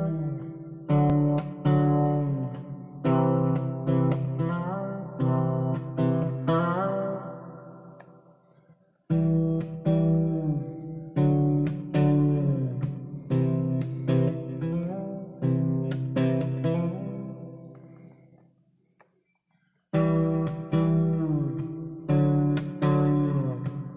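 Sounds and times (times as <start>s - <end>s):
fretless plucked string instrument: 0.0s - 18.4s, 19.9s - 23.9s.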